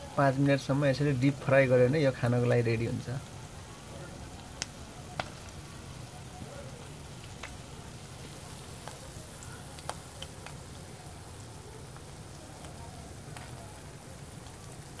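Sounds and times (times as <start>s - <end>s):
fish sizzling in hot oil: 0.0s - 15.0s
oil popping and crackling: 0.0s - 15.0s.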